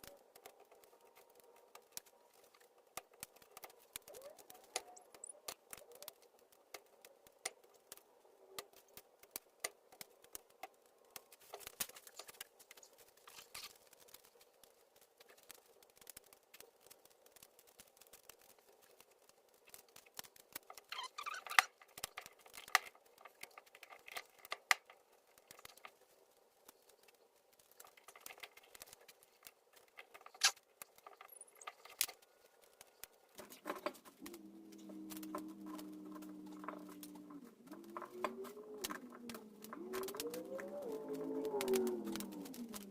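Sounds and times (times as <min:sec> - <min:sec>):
small hard parts clicking: 0:00.0 - 0:42.9.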